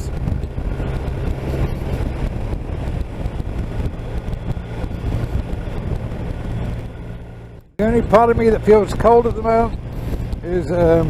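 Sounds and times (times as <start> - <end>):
motorcycle engine running: 0.0 - 11.0
wind rushing: 0.0 - 11.0.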